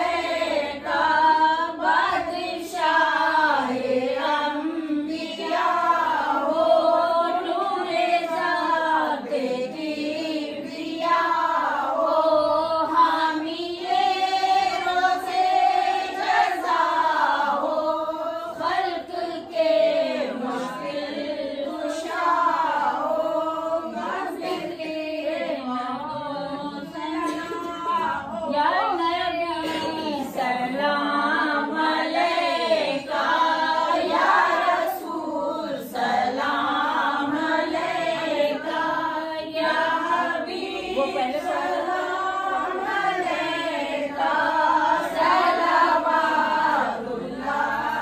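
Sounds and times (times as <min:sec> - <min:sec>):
women singing in unison: 0:00.0 - 0:48.0.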